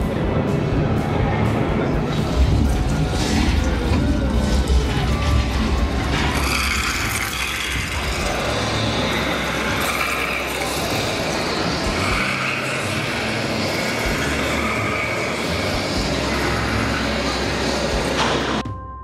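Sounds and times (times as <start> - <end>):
dense ambient noise: 0.0 - 18.6
faint voices: 0.0 - 18.6
low hum: 0.2 - 18.6.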